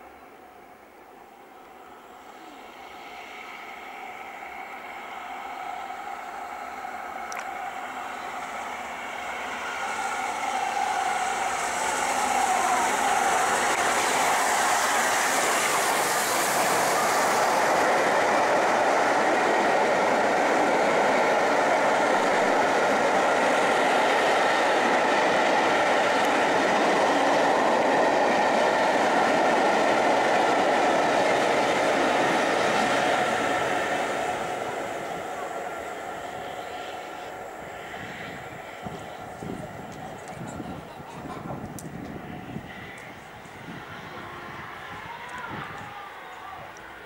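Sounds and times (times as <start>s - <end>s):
train wheels rumbling on rails: 1.4s - 47.0s.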